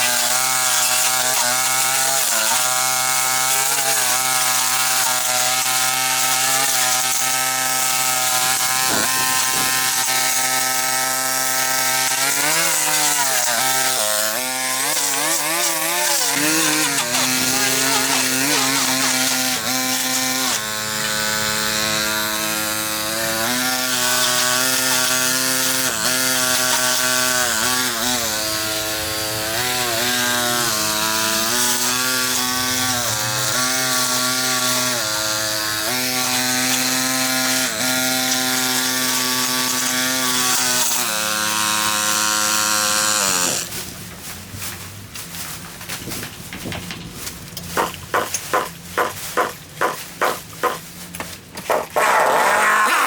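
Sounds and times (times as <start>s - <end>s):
two-stroke power tool engine: 0.0s - 44.0s, 47.6s - 53.0s.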